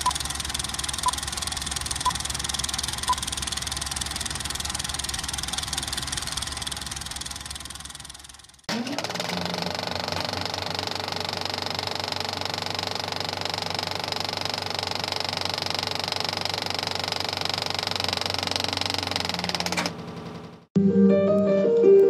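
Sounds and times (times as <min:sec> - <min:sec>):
film projector clatter: 0:00.0 - 0:20.7
motor hum: 0:00.0 - 0:20.7.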